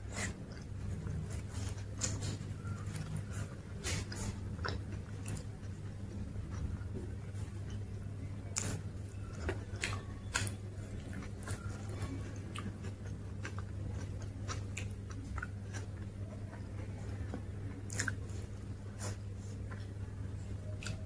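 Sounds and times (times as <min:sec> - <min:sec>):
person chewing crisp food: 0:00.0 - 0:21.0
steady low hum: 0:00.0 - 0:21.0.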